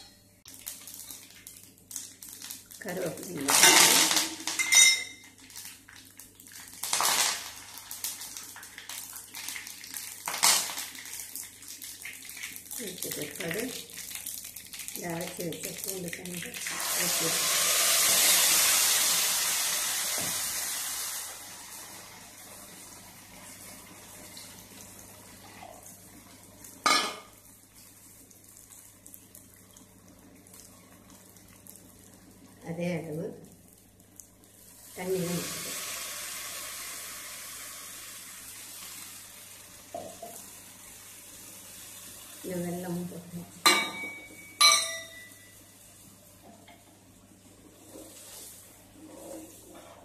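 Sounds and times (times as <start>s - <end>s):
hot oil sizzling: 0.0s - 50.0s.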